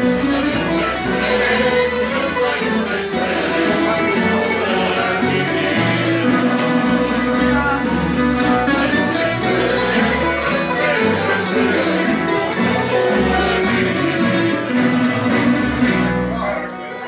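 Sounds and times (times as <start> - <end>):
accordion: 0.0 - 17.0
plucked lutes strumming: 0.0 - 17.0.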